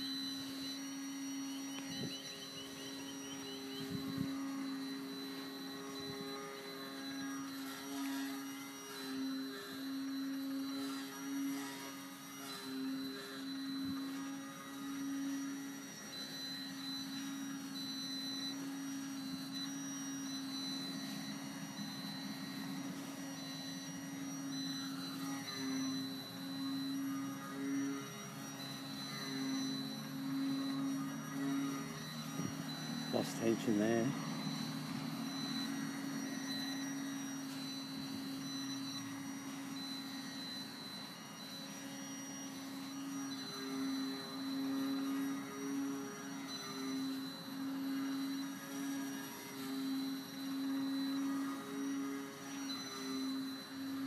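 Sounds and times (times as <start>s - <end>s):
model plane motor buzzing: 0.0s - 54.0s.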